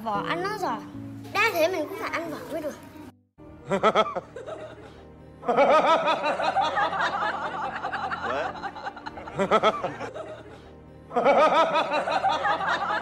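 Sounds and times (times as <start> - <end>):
comic background music: 0.0 - 13.0.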